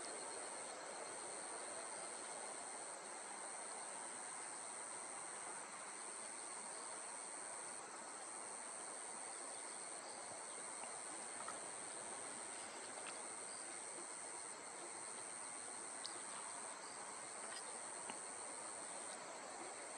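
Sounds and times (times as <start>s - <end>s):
faint outdoor hiss: 0.0s - 19.9s
insects buzzing: 0.0s - 19.9s.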